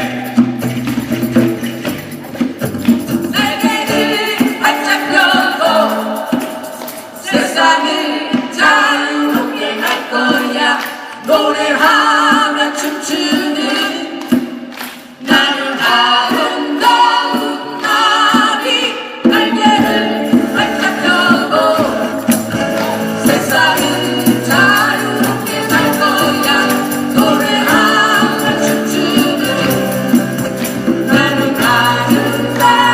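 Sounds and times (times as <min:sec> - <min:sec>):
person singing with vibrato: 0:00.0 - 0:00.8, 0:03.3 - 0:32.9
live band playing: 0:00.0 - 0:32.9.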